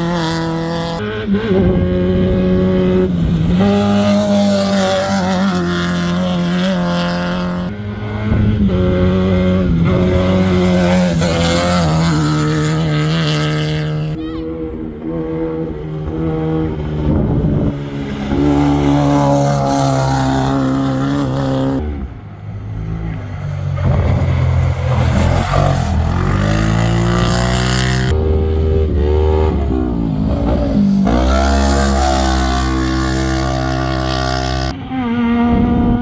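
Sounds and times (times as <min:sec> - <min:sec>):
off-road vehicle engines revving: 0:00.0 - 0:36.0.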